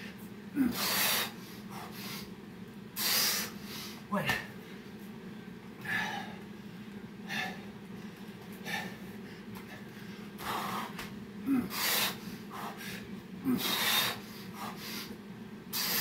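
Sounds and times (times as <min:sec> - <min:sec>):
man breathing hard: 0:00.5 - 0:02.4, 0:03.0 - 0:04.9, 0:05.8 - 0:16.0.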